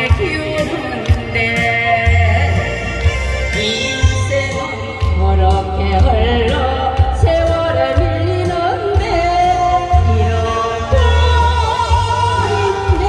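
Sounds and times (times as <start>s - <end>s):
amplified backing track: 0.0s - 13.0s
person singing with vibrato: 0.0s - 13.0s.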